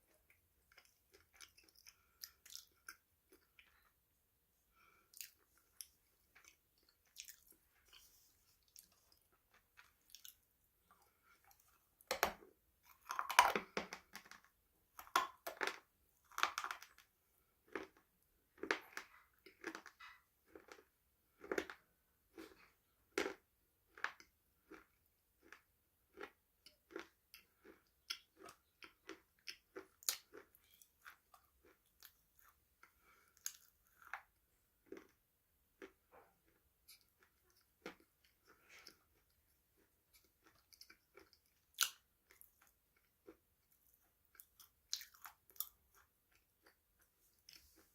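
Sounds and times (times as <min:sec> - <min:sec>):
person chewing crunchy food: 0:00.1 - 0:04.0, 0:04.7 - 0:47.9.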